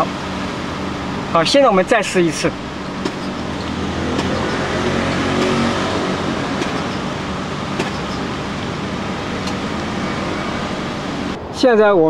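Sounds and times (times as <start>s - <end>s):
steady car cabin noise: 0.0s - 11.4s.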